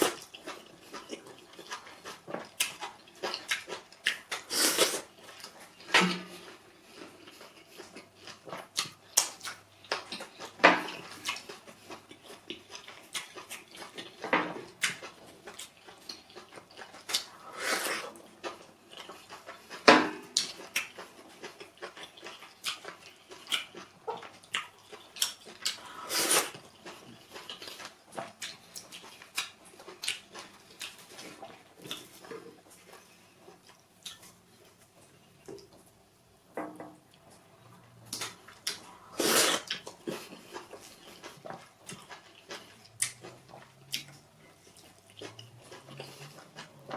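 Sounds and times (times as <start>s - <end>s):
wet chewing and lip smacks: 0.0s - 5.9s, 6.5s - 17.4s, 18.0s - 34.7s, 38.1s - 46.9s.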